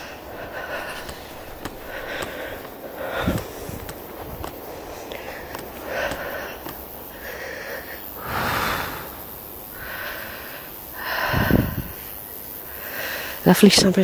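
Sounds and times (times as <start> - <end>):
person breathing hard: 0.0 - 12.1, 12.7 - 13.4.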